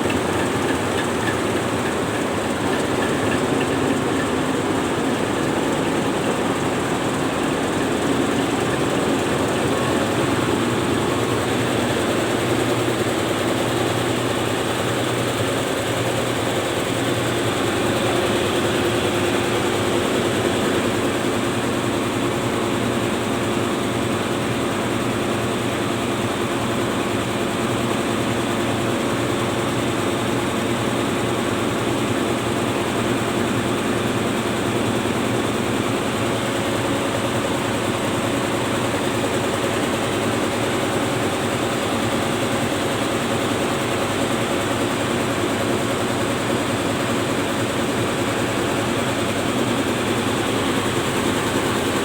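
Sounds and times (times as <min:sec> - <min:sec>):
diesel engines humming: 0:00.0 - 0:23.6, 0:31.9 - 0:52.0.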